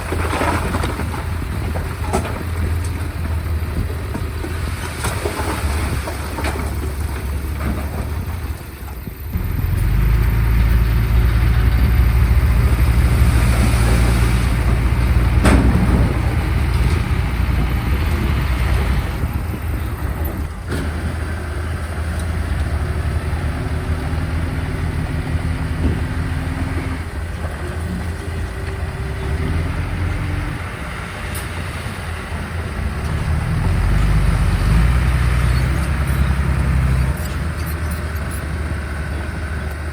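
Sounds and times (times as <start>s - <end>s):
heavy machinery diesel engines droning: 0.0s - 39.9s.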